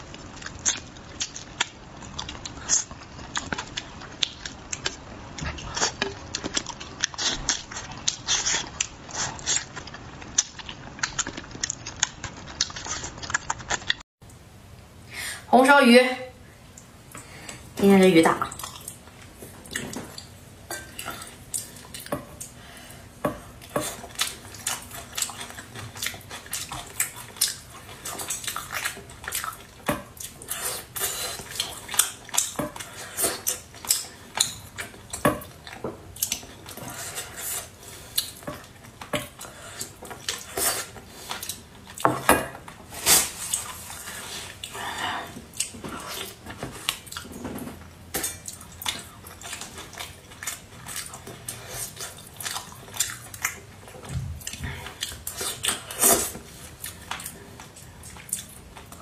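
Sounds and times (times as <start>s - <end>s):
chewing food: 0.0s - 14.0s, 18.4s - 59.0s.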